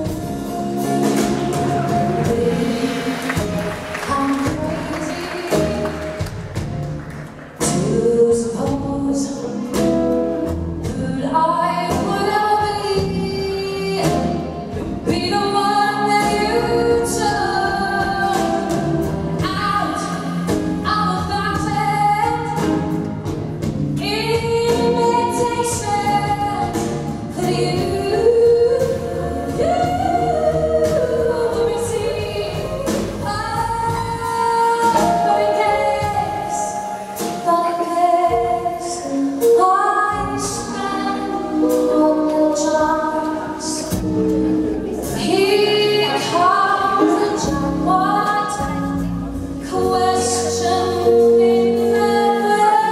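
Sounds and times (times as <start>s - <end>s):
woman singing into microphone: 0.0s - 6.2s, 7.6s - 10.2s, 10.8s - 22.9s, 24.0s - 44.2s, 45.0s - 52.9s
double bass: 0.0s - 52.9s.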